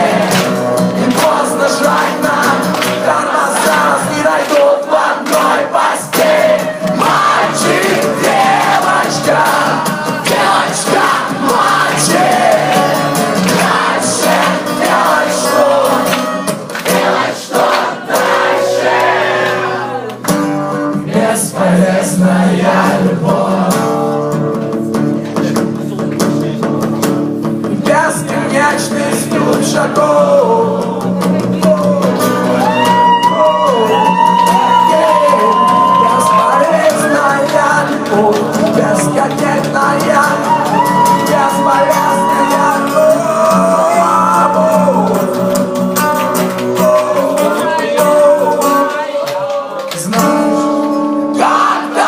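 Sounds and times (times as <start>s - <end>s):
live rock band playing: 0.0s - 4.4s, 5.4s - 49.0s
person singing: 0.0s - 20.2s, 27.7s - 52.0s.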